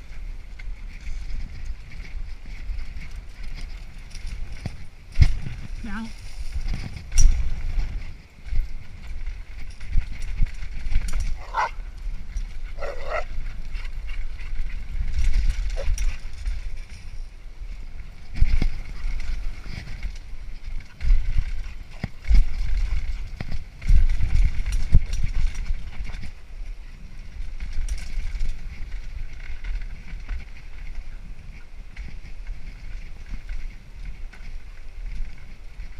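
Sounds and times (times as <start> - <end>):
jolting rumble on dirt trail: 0.0 - 35.9
wind buffeting microphone: 0.0 - 35.9.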